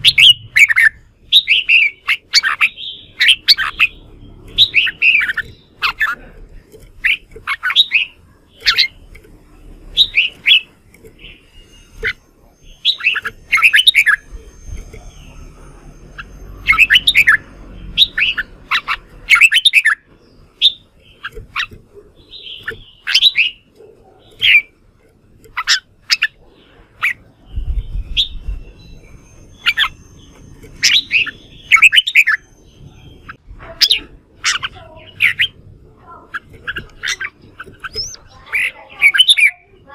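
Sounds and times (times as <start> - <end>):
bird whistling song: 0.0 - 6.2, 7.0 - 9.0, 9.8 - 23.6, 27.0 - 35.6, 36.3 - 39.6.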